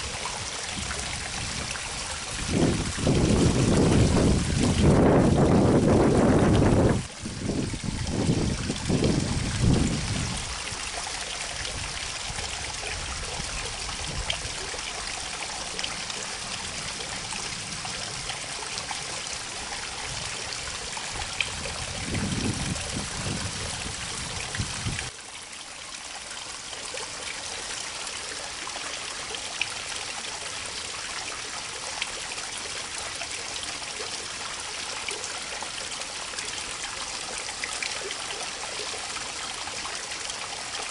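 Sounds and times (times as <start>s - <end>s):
water pouring into creek: 0.0s - 40.9s.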